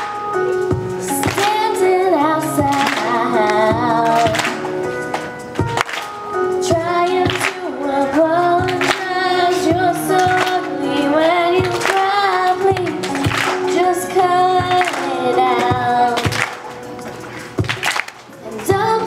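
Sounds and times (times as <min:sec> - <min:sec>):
girl singing into microphone: 0:00.0 - 0:16.8, 0:18.4 - 0:19.0
backing music with beat: 0:00.0 - 0:19.0.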